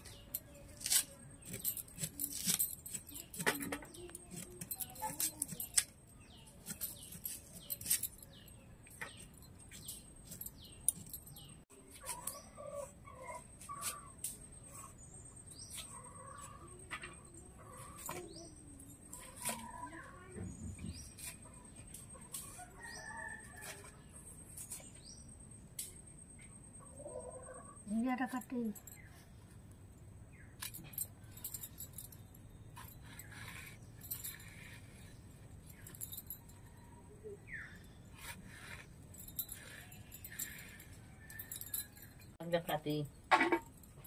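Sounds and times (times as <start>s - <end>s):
small birds chirping: 0.0s - 25.4s, 27.7s - 43.2s.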